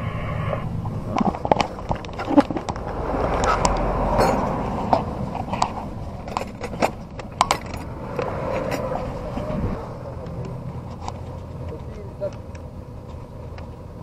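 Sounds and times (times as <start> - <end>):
vehicle hum: 0.0 - 14.0.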